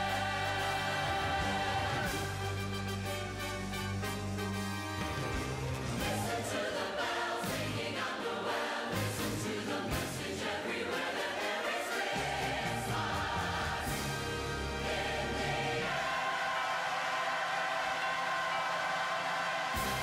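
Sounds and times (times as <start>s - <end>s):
choir singing: 0.0s - 2.7s, 5.7s - 20.0s.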